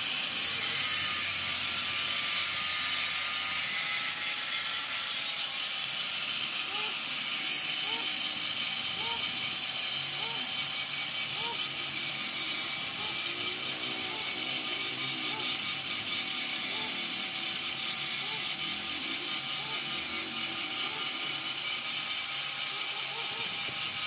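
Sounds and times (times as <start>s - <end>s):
angle grinder grinding steel: 0.0s - 24.0s.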